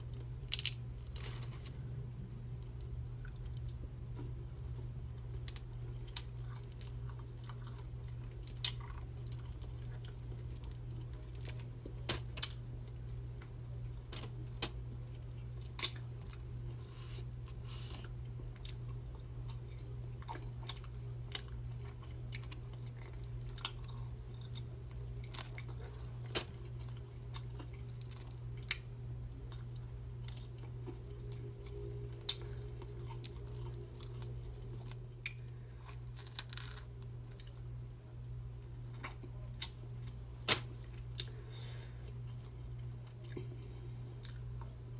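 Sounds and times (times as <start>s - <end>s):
low hum: 0.0s - 44.9s
person chewing food: 2.6s - 44.8s.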